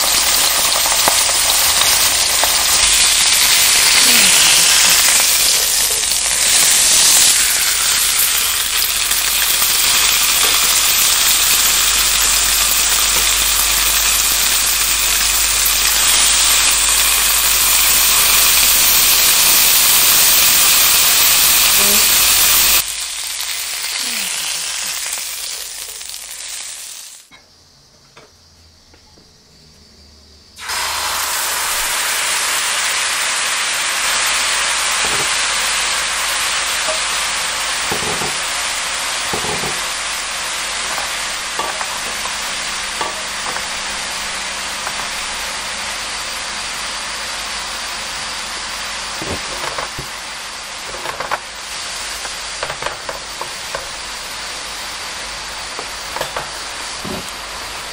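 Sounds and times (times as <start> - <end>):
fish sizzling in oil: 0.0 - 27.3, 30.6 - 57.9
sauce bubbling and sizzling: 0.0 - 27.3, 30.6 - 57.9.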